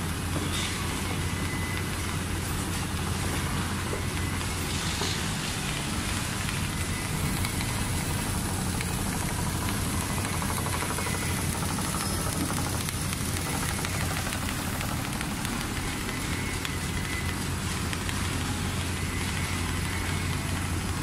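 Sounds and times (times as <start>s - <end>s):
sewing machine humming: 1.6s - 21.0s.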